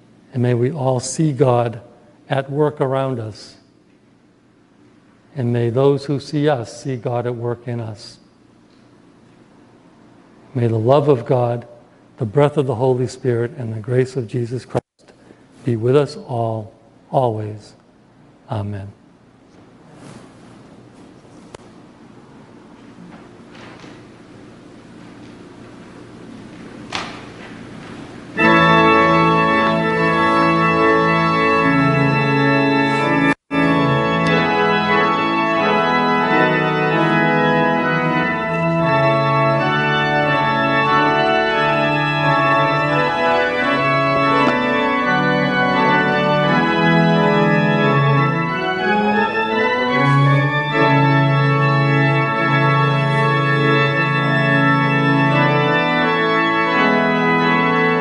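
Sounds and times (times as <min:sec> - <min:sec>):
organ music sustained chords: 0:00.0 - 0:19.4, 0:21.6 - 0:58.0.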